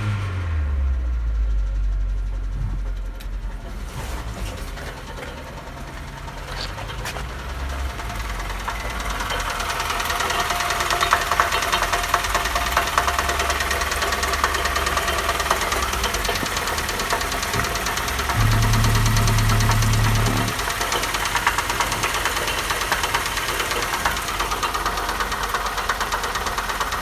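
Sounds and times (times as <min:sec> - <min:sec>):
engine ticking: 0:00.0 - 0:27.0
petrol engine running: 0:00.5 - 0:27.0.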